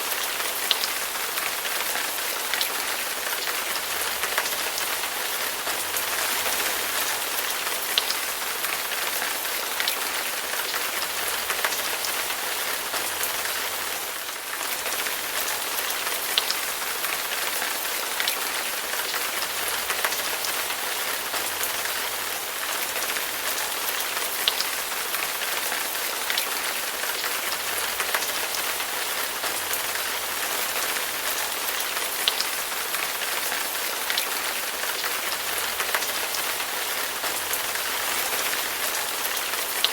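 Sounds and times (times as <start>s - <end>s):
raindrops ticking on a surface: 0.1s - 39.9s.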